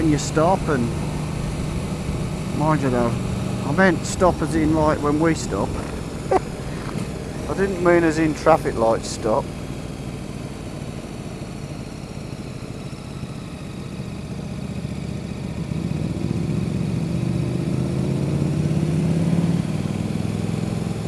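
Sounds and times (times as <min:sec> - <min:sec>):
motorcycle engine: 0:00.0 - 0:21.0
road and wind noise: 0:00.0 - 0:21.0.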